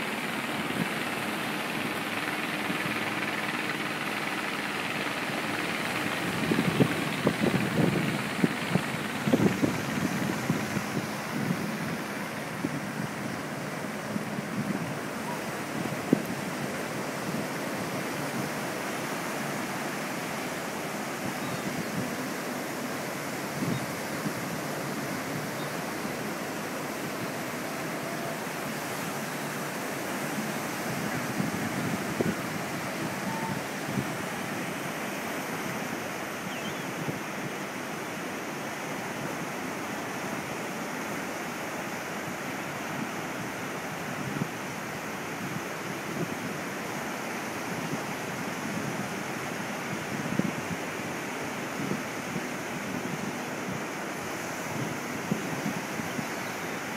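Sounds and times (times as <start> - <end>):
surf waves breaking on beach: 0.0 - 56.9.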